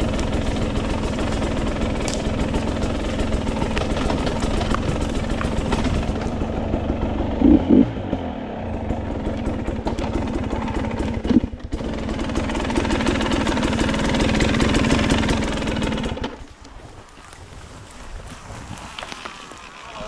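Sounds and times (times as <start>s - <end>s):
off-road motorcycle engine: 0.0s - 20.0s.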